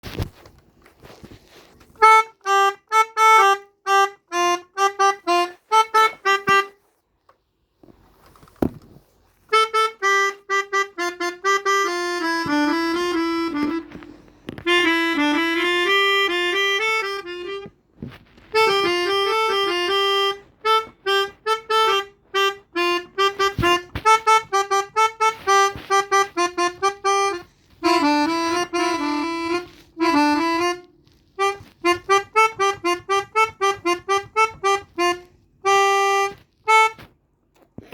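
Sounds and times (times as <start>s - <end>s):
melodica playing a tune: 1.9s - 7.0s, 9.4s - 37.2s.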